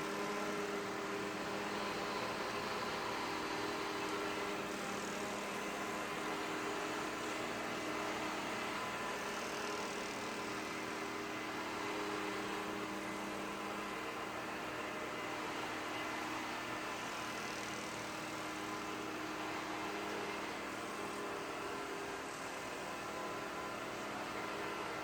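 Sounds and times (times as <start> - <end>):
robot vacuum whirring: 0.0 - 25.0.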